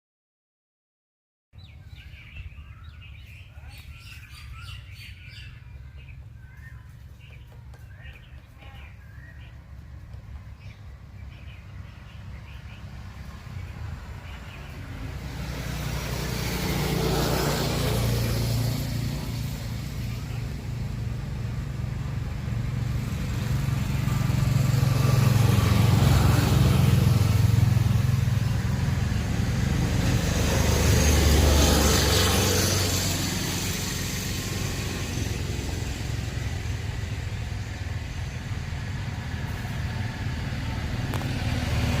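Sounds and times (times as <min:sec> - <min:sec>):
motor vehicles passing: 0:01.6 - 0:42.0.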